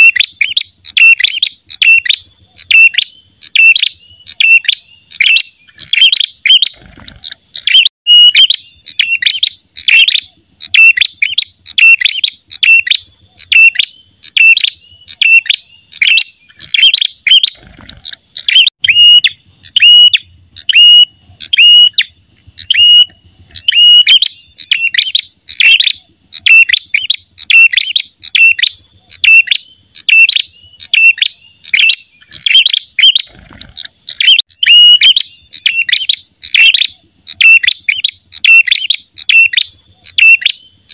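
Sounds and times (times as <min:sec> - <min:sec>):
bird chirping sharply: 0:00.0 - 0:40.9.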